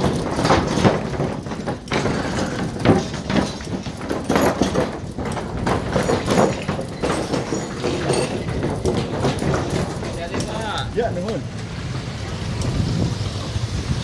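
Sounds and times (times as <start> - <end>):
wooden boards knocking and clattering: 0.0 - 11.5
bicycle tyres rolling over planks: 0.0 - 14.0.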